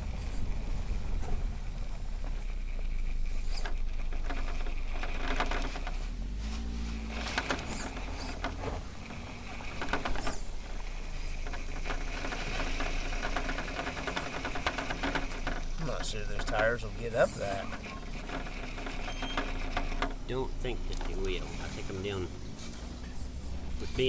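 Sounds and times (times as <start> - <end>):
electric drivetrain whining: 0.0 - 24.0
tires clattering over rock: 0.0 - 24.0.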